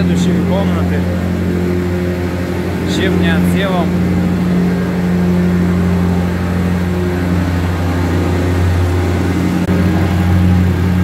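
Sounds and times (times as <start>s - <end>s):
plate compactor running: 0.0s - 11.0s.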